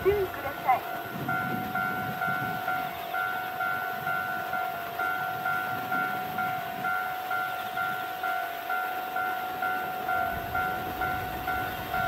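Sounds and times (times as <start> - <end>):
electronic warning bell ringing: 0.0 - 12.0
low rumble of diesel train: 0.0 - 12.0.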